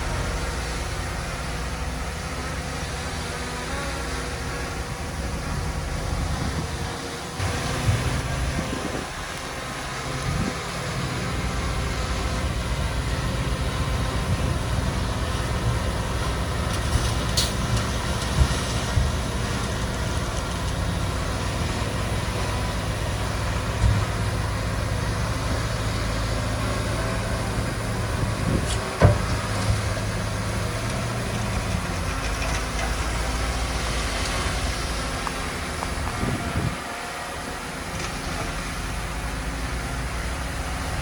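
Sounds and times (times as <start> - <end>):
diesel machinery rumbling: 0.0 - 41.0.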